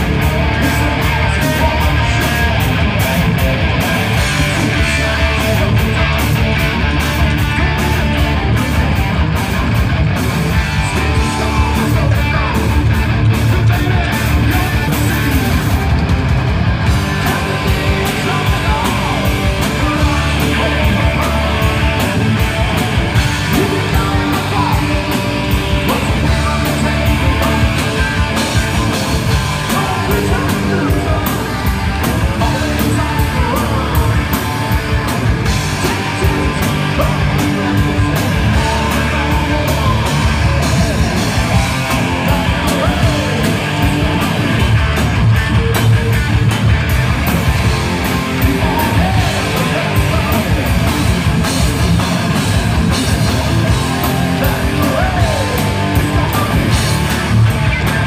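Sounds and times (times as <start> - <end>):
drum kit steady beat: 0.0 - 58.0
electric guitars: 0.0 - 58.0.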